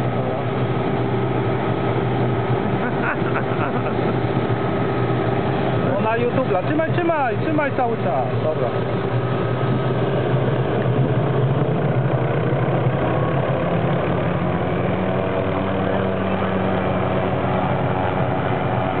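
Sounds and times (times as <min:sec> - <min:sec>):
helicopter engine and rotor hum: 0:00.0 - 0:19.0.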